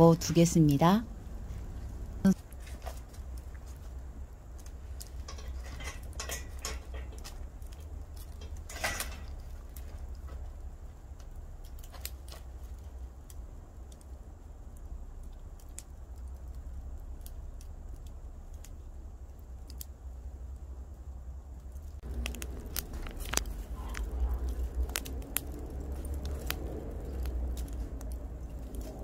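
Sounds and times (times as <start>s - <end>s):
campfire crackling and popping: 0.0s - 29.0s
low fire rumble: 0.0s - 29.0s.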